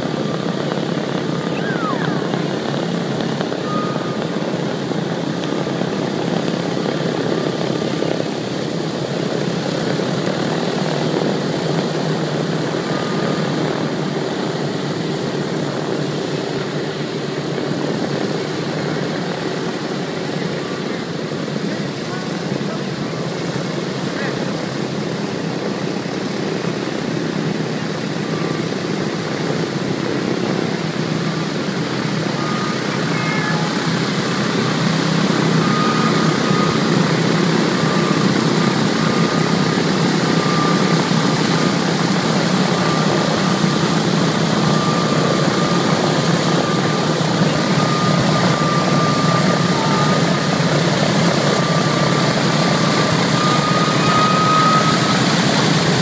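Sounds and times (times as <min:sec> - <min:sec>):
radial aircraft engines running: 0:00.0 - 0:56.0
thin steady whine: 0:00.0 - 0:56.0.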